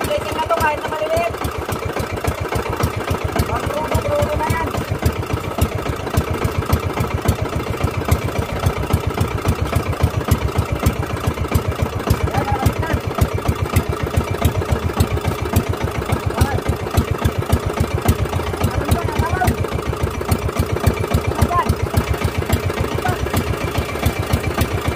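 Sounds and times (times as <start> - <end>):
boat engine chugging: 0.0 - 24.9.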